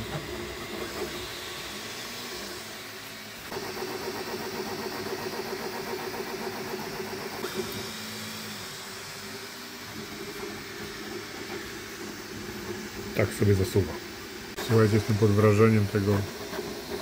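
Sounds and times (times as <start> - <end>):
fans hissing: 0.0 - 17.0
printer motor whine: 0.0 - 17.0.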